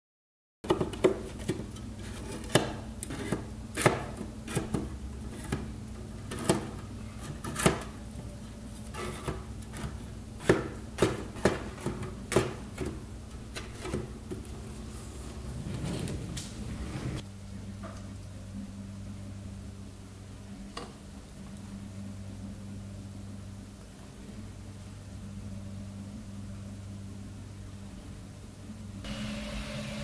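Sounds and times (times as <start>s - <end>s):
steady low hum: 0.7s - 30.0s.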